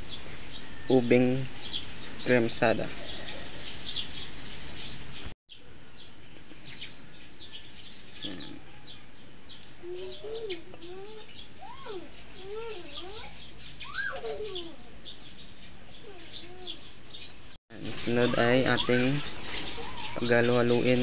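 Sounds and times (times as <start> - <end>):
birds chirping: 0.0 - 21.0
lower wavering bird calls: 0.0 - 21.0.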